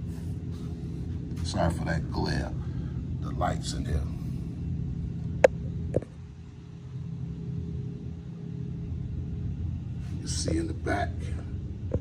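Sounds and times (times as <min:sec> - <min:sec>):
faint steady hum: 0:00.0 - 0:12.0
steady low rumble: 0:00.0 - 0:12.0.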